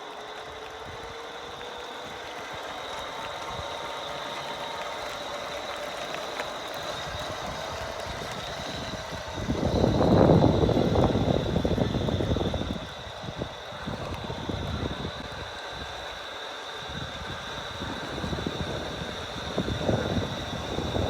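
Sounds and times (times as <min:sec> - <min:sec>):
electric scooter high whine: 0:00.0 - 0:21.0.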